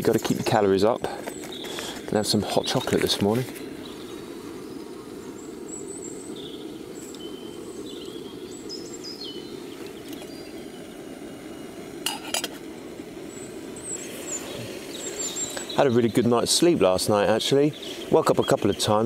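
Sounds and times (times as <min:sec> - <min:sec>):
birds chirping: 0:00.0 - 0:19.0
camping stove burning: 0:00.0 - 0:19.0.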